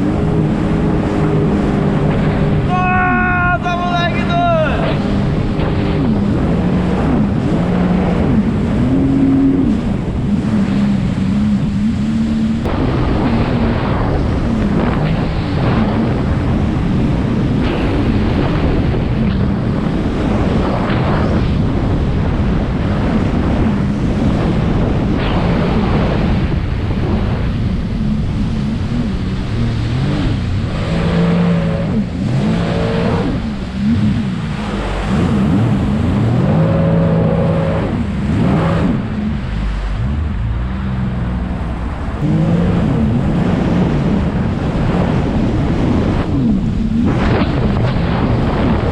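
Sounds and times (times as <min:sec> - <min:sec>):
speedboat engine running: 0:00.0 - 0:48.9
water rushing past hull: 0:00.0 - 0:48.9
wind buffeting microphone: 0:00.0 - 0:48.9.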